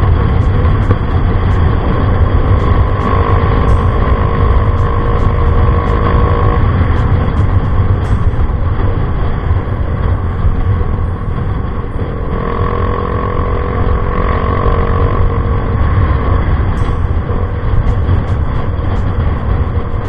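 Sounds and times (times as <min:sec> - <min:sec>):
high steady whine: 0:00.0 - 0:20.0
scooter engine and exhaust: 0:00.0 - 0:20.0.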